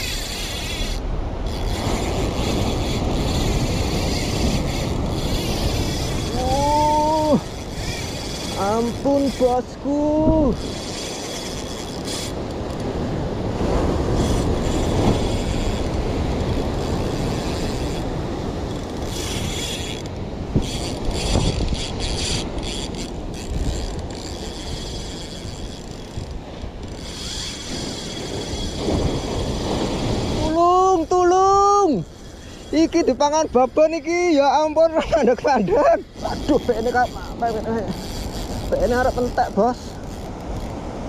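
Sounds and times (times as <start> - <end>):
fishing reel drag ticking and buzzing: 0.0 - 41.0
surf rushing: 0.0 - 41.0.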